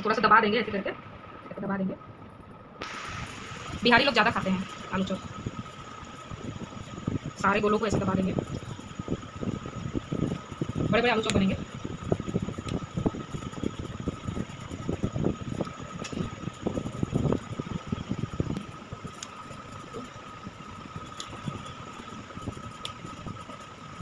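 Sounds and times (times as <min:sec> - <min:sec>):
background hum: 0:00.0 - 0:24.0
thin whine: 0:00.0 - 0:24.0.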